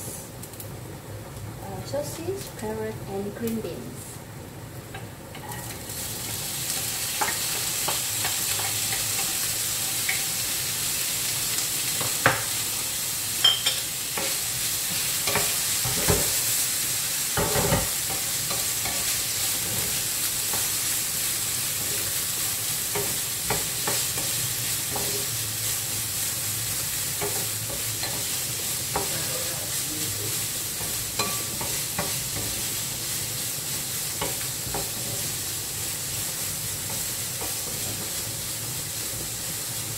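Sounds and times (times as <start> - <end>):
food sizzling in oil: 1.7 - 39.9.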